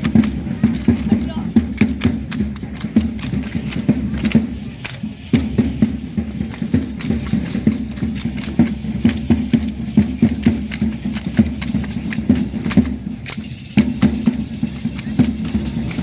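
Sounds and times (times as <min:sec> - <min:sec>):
dance stamps and strikes: 0:00.0 - 0:16.0.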